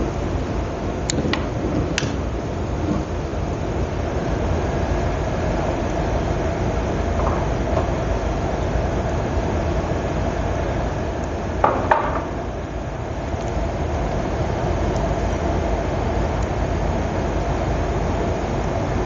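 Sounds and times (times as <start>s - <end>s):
faint steady hum: 0.0s - 19.0s
steady low noise: 0.0s - 19.0s.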